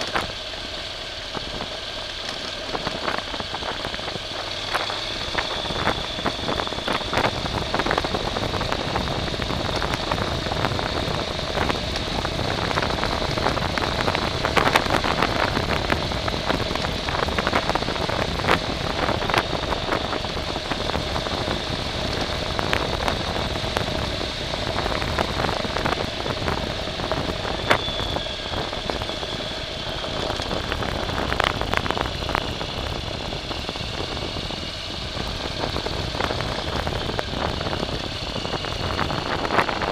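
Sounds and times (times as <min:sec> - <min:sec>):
vehicle motor running with whine: 0:00.0 - 0:39.9.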